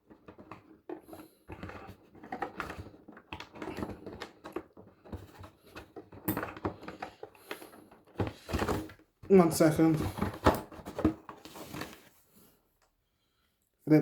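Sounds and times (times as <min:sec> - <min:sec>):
cardboard and plastic rustling: 0:00.0 - 0:12.7.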